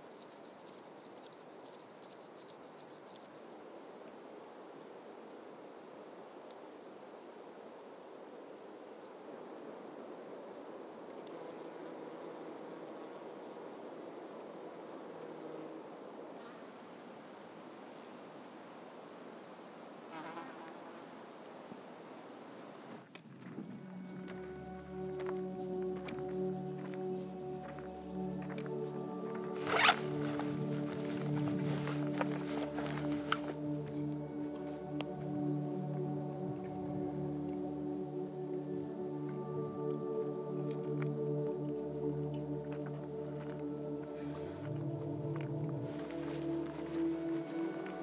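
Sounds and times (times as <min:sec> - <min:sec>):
meadow insects chirping: 0:00.0 - 0:48.0.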